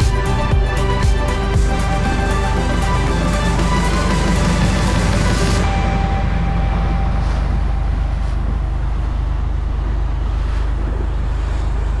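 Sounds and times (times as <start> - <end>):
boat engine drone: 0.0 - 12.0
water rushing along hull: 0.0 - 12.0
wind buffeting microphone: 0.0 - 12.0.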